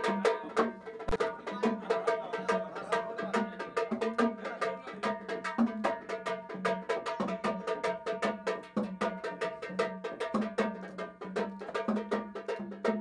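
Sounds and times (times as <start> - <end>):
fast percussion strikes: 0.0 - 13.0.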